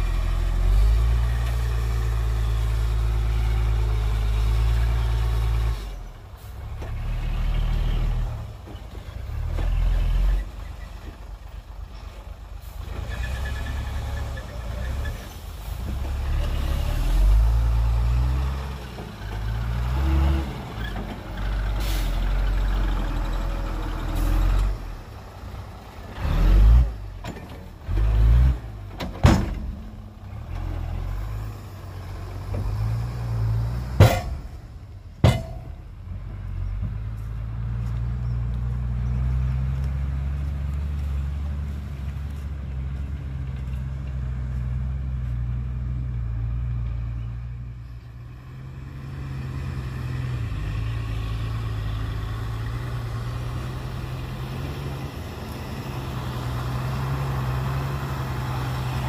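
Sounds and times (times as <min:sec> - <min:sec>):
diesel trucks and bulldozer revving: 0:00.0 - 0:59.0.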